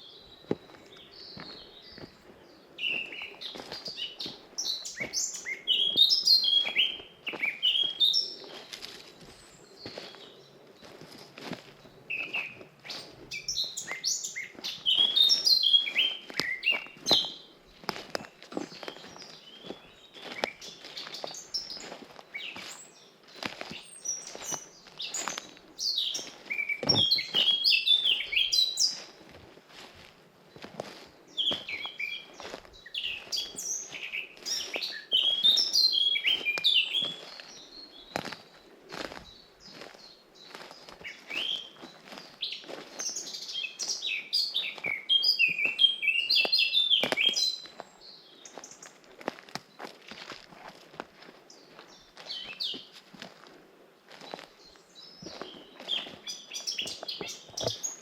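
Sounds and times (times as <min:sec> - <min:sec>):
footsteps on forest path: 0:00.0 - 0:58.0
songbirds chirping and singing: 0:00.0 - 0:58.0.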